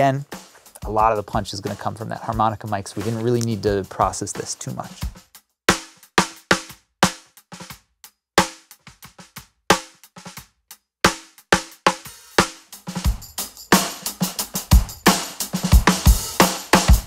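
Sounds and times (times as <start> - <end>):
snare drum groove: 0.0 - 17.0.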